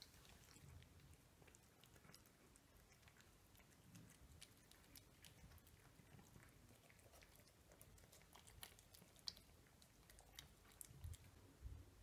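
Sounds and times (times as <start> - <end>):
cats crunching dry kibble: 0.0 - 11.4.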